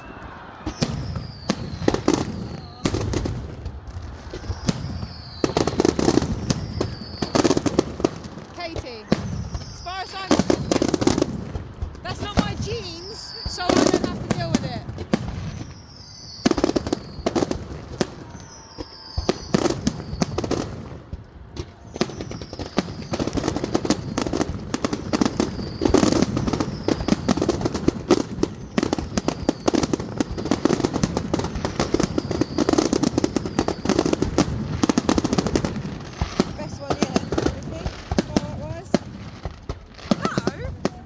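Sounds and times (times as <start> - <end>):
falling firework whistles: 0.0 - 7.8, 9.0 - 11.3, 12.1 - 20.9, 21.6 - 41.0
fireworks crackling and banging: 0.0 - 41.0.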